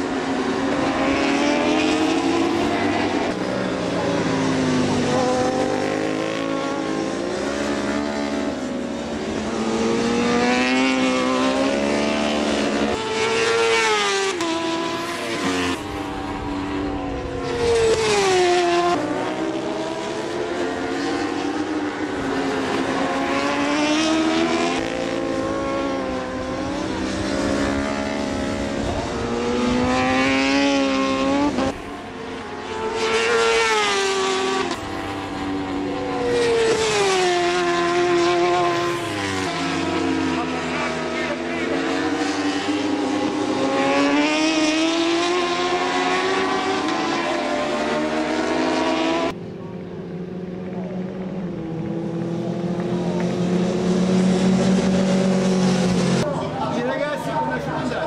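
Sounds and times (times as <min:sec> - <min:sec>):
racing motorcycle engines revving: 0:00.0 - 0:58.0.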